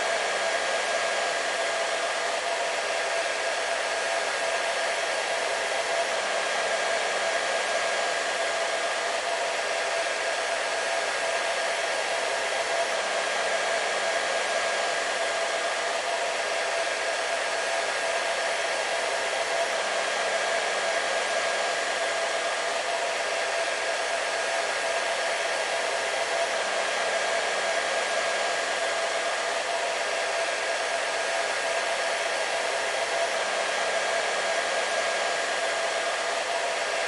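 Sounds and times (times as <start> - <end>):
hair dryer running: 0.0 - 37.0.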